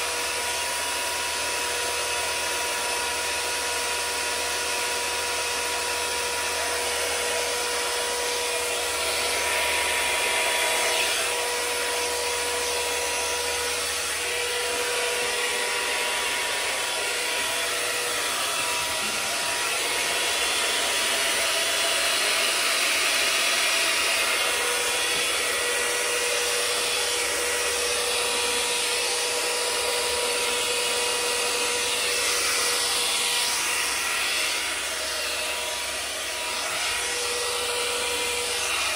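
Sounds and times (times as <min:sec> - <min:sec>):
hairdryer running: 0:00.0 - 0:38.9.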